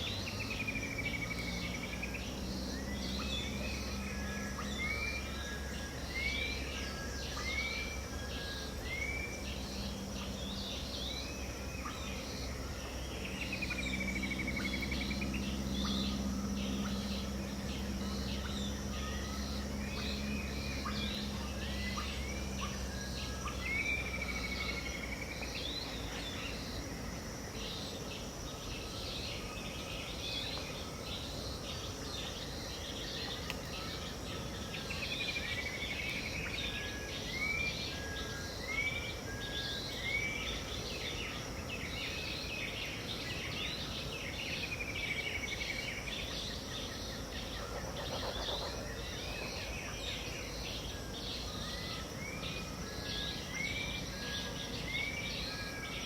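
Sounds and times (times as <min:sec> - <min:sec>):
birds calling: 0:00.0 - 0:56.0
steady background hiss: 0:00.0 - 0:56.0.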